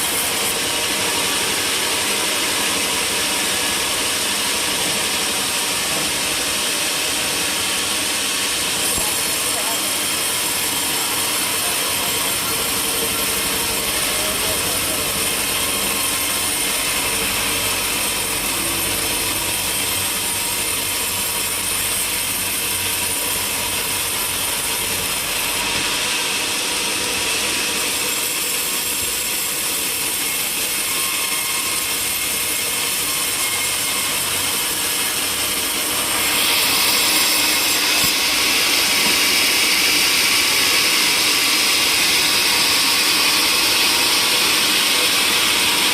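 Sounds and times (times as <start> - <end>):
sawmill saw cutting timber: 0.0 - 45.9.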